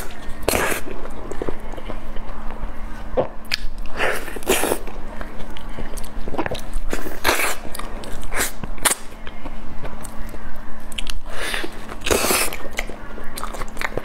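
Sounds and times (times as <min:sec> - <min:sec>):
person chewing soft fruit: 0:00.0 - 0:14.0.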